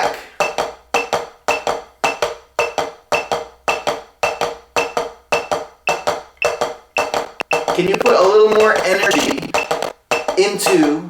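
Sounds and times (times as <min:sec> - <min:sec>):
drumsticks tapping practice pad: 0:00.0 - 0:11.0.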